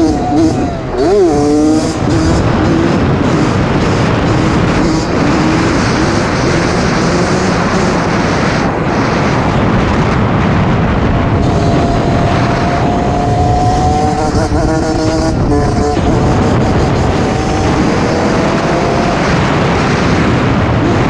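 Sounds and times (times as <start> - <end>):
dirt bike engine running: 0.0 - 21.0
heavy rushing noise: 0.0 - 21.0.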